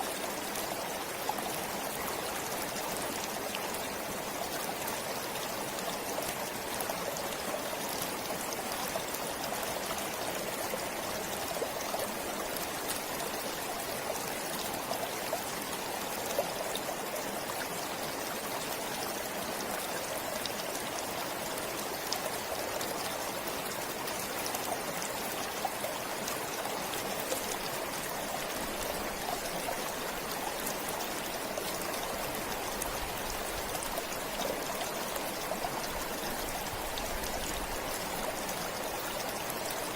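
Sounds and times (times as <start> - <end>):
stream flowing with splashes: 0.0 - 39.9.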